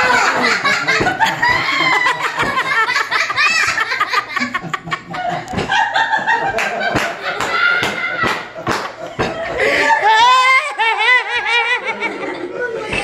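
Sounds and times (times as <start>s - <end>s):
people laughing: 0.0s - 13.0s.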